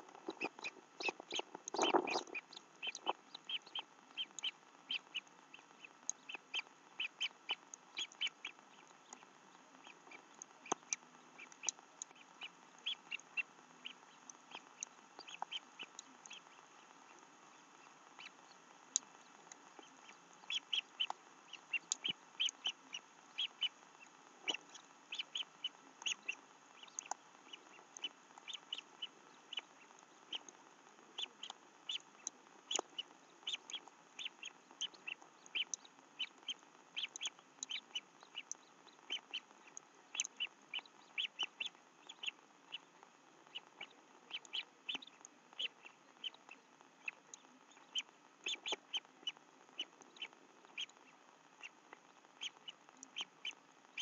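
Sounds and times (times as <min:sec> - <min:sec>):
faint steady hiss: 0:00.0 - 0:54.0
small birds chirping: 0:00.0 - 0:54.0.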